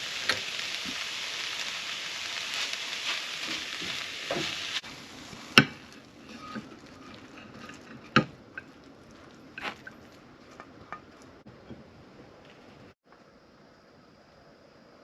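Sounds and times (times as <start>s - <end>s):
frying sizzle: 0.0s - 12.9s.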